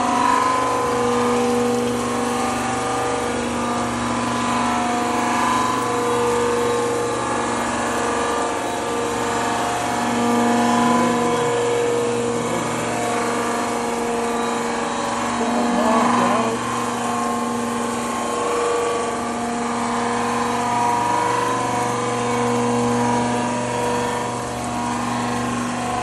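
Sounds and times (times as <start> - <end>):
grinding wheel on metal: 0.0 - 26.0
machine hum: 0.0 - 26.0.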